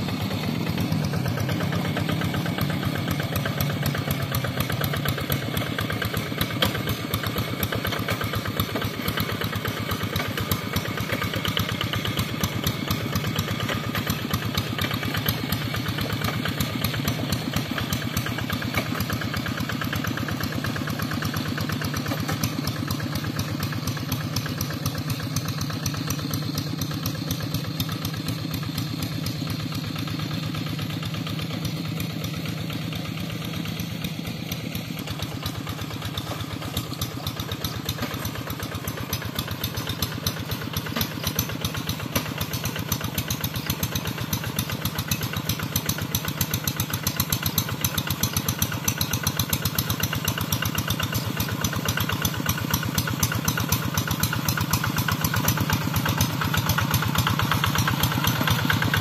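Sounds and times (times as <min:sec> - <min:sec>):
hand tractor engine running: 0:00.0 - 0:59.0.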